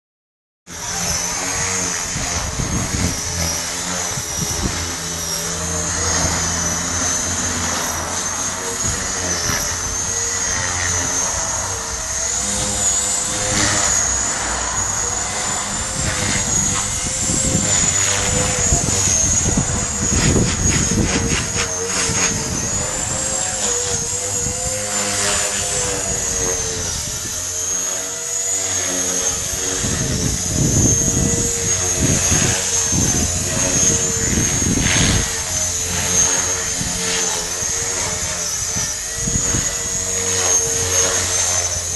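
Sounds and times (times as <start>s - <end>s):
rc helicopter motor whine: 0.7s - 41.9s.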